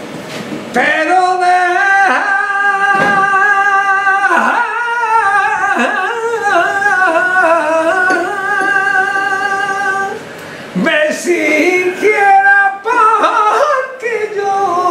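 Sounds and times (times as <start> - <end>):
man singing flamenco: 0.7 - 10.2, 10.8 - 14.9.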